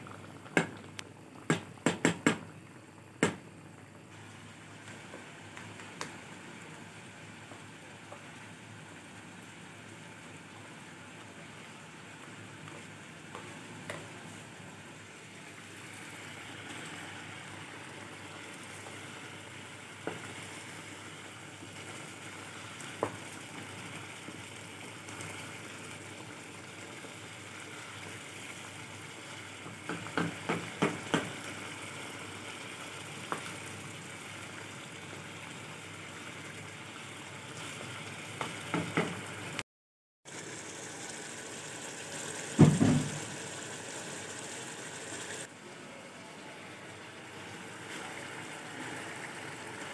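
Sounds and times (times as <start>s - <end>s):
chicken sizzling in pan: 4.1s - 39.6s, 40.3s - 45.5s, 46.4s - 49.9s.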